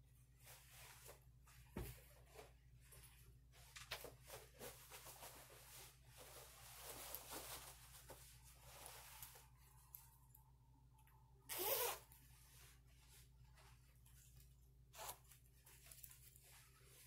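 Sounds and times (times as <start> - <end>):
faint rustles and clicks: 0.2 - 10.6, 12.2 - 17.0.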